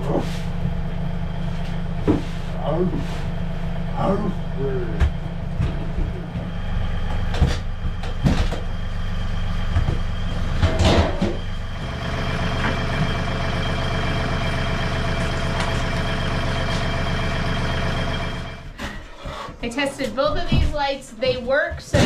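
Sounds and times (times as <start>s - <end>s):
engine idling: 0.0s - 18.8s.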